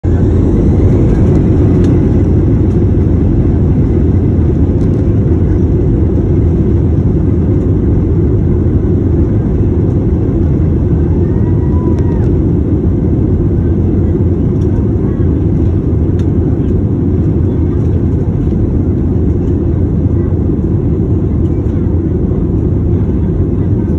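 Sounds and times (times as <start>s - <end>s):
jet engines roaring in cabin: 0.0s - 23.9s.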